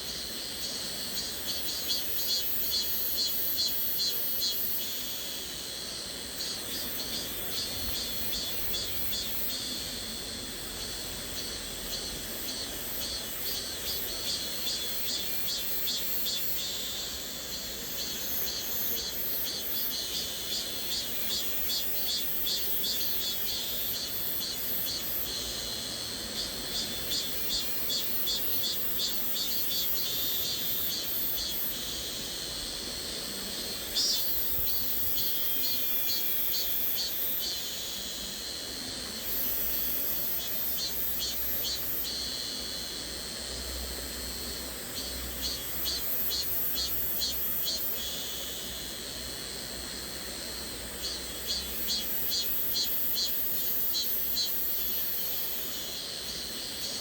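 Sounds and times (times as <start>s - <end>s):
cicadas singing: 0.0s - 57.0s.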